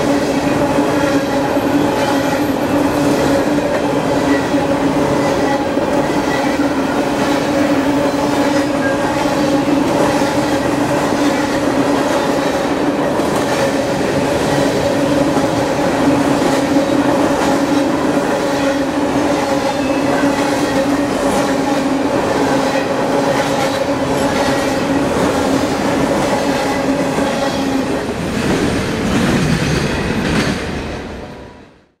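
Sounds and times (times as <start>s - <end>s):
train wheels rumbling on rail: 0.0s - 31.7s
clickety-clack over rail joints: 0.1s - 31.0s.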